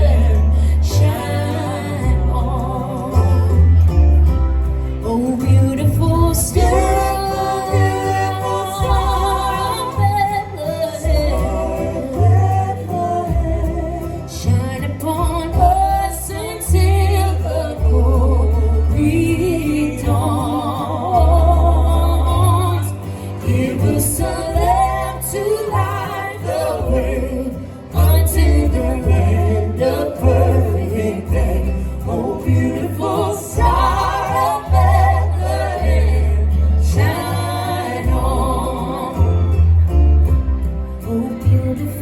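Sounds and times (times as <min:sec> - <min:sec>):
singing with vibrato: 0:00.0 - 0:03.8, 0:05.0 - 0:39.6
held bass notes: 0:00.0 - 0:42.0.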